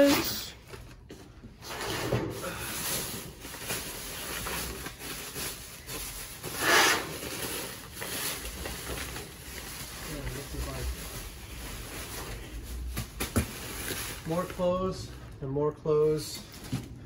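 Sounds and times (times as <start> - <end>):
plastic bag rustling and crinkling: 0.0 - 15.4.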